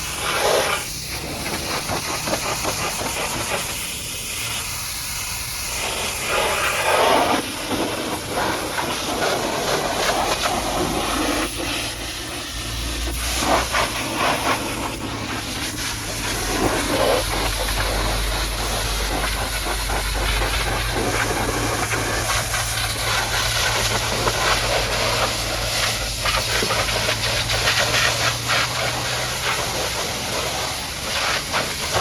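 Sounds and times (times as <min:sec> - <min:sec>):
pressure washer jet hissing: 0:00.0 - 0:32.0.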